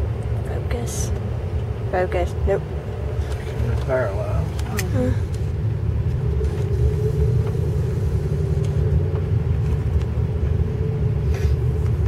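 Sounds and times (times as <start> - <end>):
road and engine rumble: 0.0 - 12.0
steady hum: 0.0 - 12.0.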